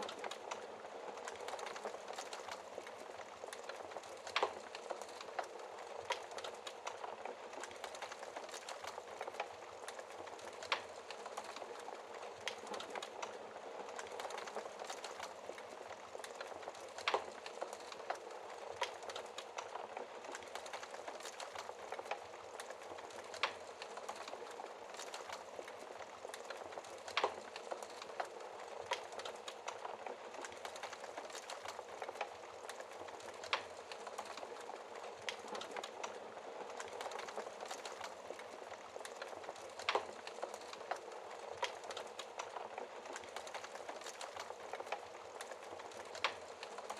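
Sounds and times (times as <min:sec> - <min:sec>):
wood fire crackling: 0:00.0 - 0:46.9
fire pops: 0:00.2 - 0:46.9.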